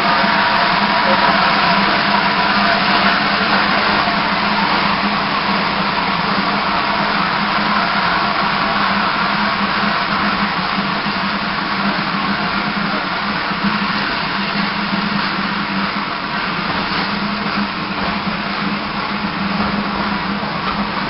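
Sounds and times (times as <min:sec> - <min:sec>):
low hum: 0:00.0 - 0:21.0
steam hissing: 0:00.0 - 0:21.0.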